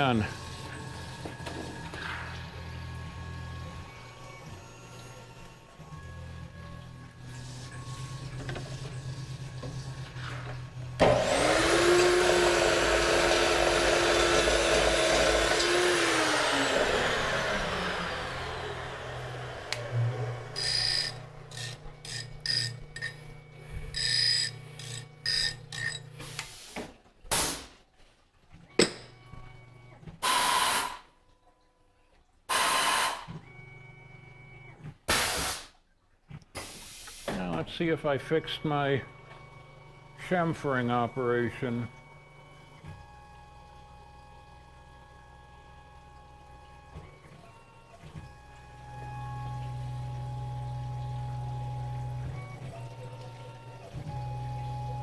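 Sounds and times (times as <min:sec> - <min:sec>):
mill spindle whine: 0:00.0 - 0:26.5, 0:37.3 - 0:55.0.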